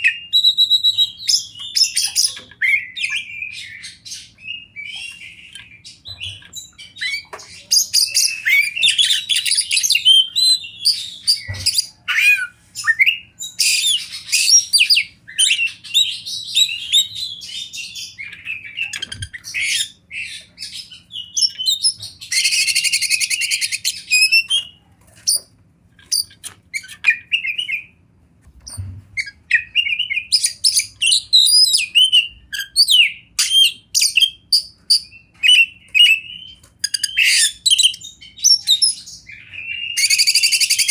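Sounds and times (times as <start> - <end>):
bird singing whistles and chirps: 0.0 - 24.8, 26.1 - 28.0, 28.7 - 40.9.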